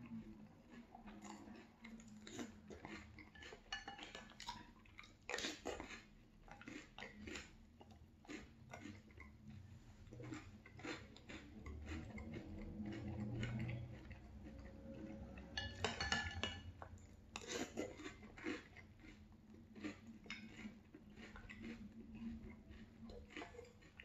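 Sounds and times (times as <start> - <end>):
chewing crunchy cereal: 0.0 - 24.0.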